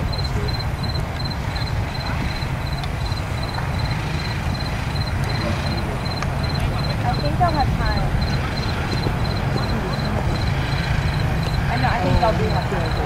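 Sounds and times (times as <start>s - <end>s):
faint high insect chirp: 0.0s - 13.0s
low rumble: 0.0s - 13.0s.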